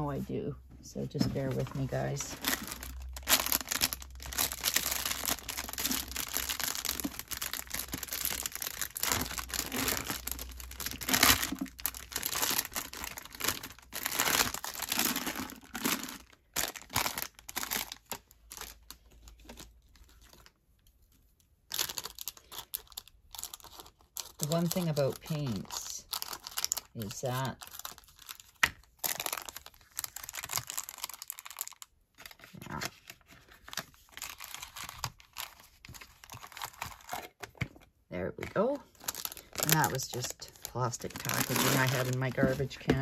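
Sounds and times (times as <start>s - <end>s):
packaging crinkling and rustling: 1.1s - 43.0s.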